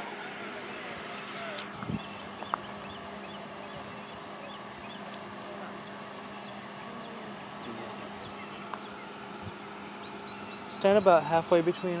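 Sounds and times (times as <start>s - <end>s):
steady low hum: 0.0s - 12.0s
small birds chirping: 0.6s - 12.0s.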